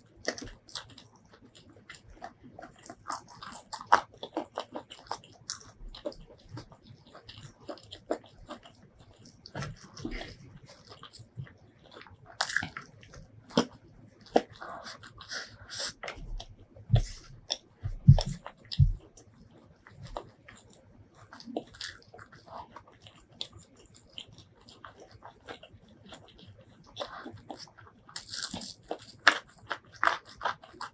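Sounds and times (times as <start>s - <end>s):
wet chewing with smacks: 0.0s - 30.9s.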